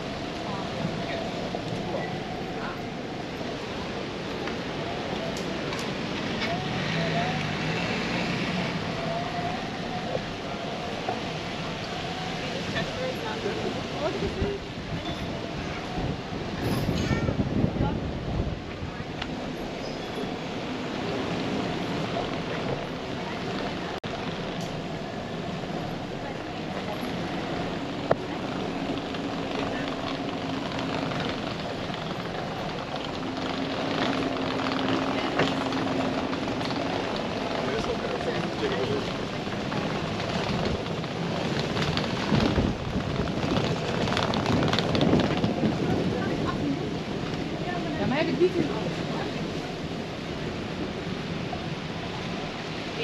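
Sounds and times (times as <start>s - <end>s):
faint voices: 0.0s - 53.0s
street noise rushing: 0.0s - 53.0s
wind on microphone: 8.6s - 53.0s.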